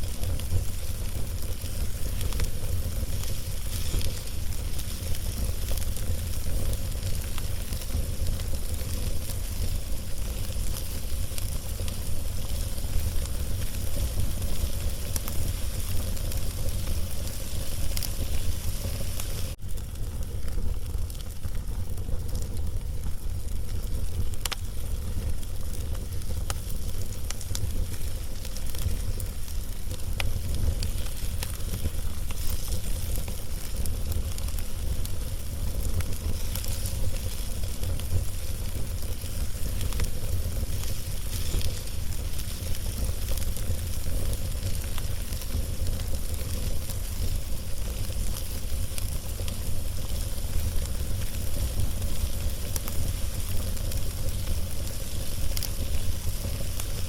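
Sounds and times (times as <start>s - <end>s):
log fire crackling and hissing: 0.0s - 57.0s.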